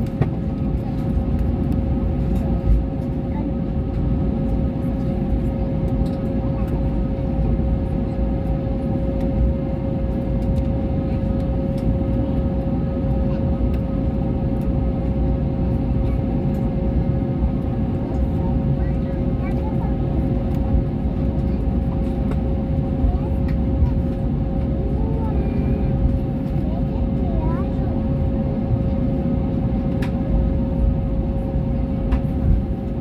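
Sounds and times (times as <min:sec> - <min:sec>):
plane engines and wheels rumbling: 0:00.0 - 0:33.0.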